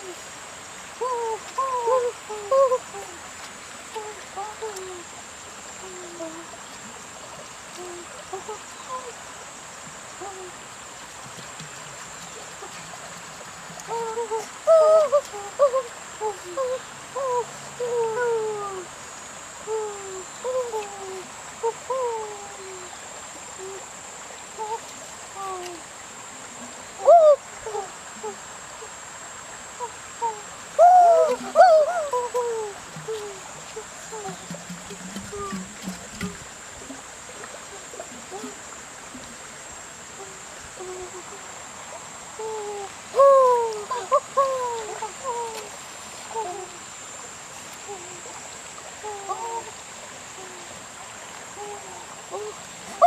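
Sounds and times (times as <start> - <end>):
shallow stream trickling: 0.0 - 53.0.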